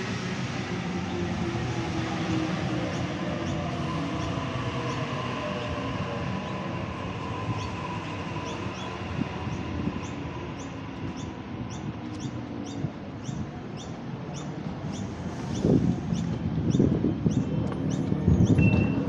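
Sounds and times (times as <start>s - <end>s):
train rolling rumble: 0.0s - 19.0s.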